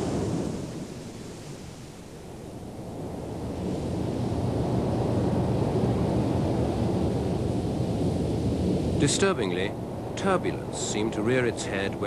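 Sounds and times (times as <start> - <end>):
turbulent water and breaking surf: 0.0 - 12.0.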